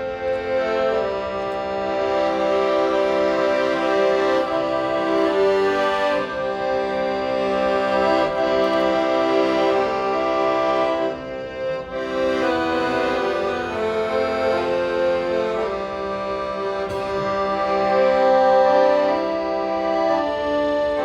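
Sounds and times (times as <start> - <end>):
instrumental music held chords: 0.0 - 21.0.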